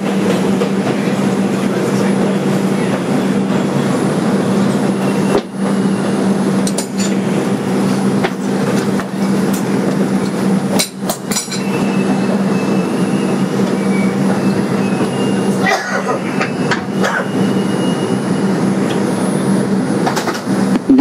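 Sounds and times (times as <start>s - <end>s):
subway car hum and rumble: 0.0s - 21.0s.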